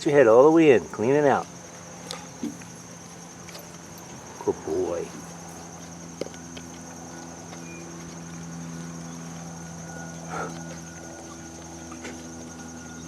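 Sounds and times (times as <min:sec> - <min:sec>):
low hum with high tone: 0:00.0 - 0:13.0.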